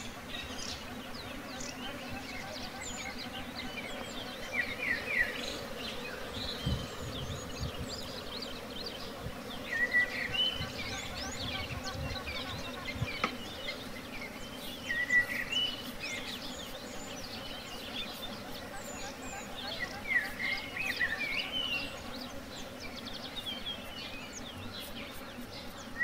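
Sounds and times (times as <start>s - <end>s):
birds chirping and whistling: 0.0s - 24.9s
honeybees buzzing: 0.0s - 26.0s.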